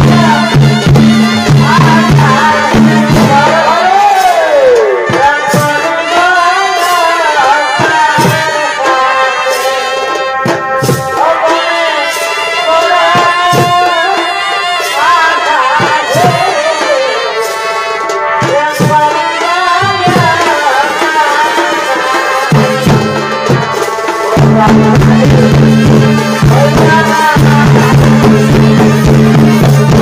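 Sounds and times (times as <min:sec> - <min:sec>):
drums beating: 0:00.0 - 0:30.0.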